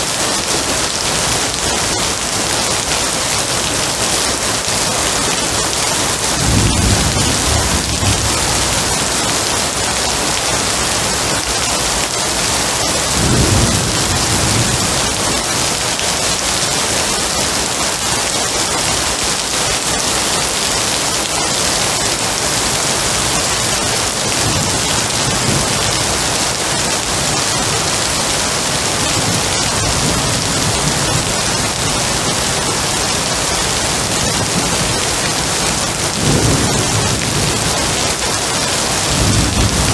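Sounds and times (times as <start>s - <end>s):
heavy rain: 0.0s - 39.9s
thunder rumbling: 0.3s - 20.1s, 23.2s - 39.9s.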